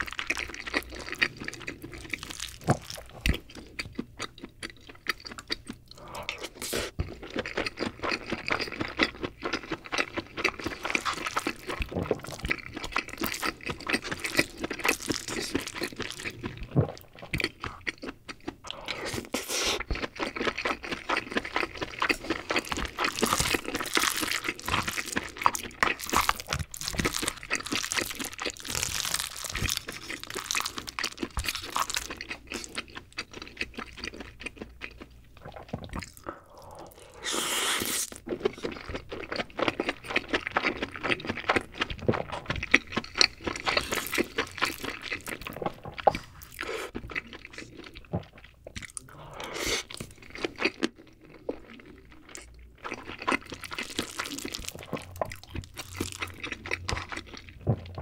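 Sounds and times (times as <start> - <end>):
chewing and mouth sounds: 0.0 - 58.0.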